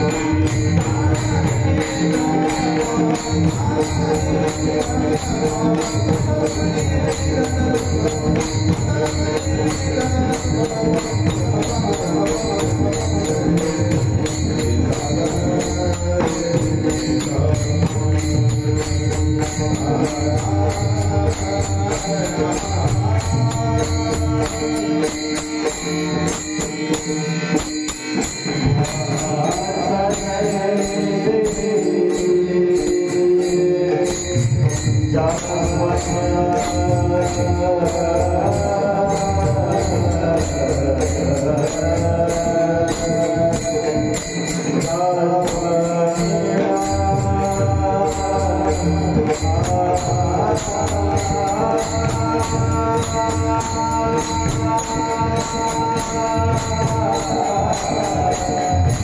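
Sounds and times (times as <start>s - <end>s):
sustained devotional melody: 0.0s - 59.0s.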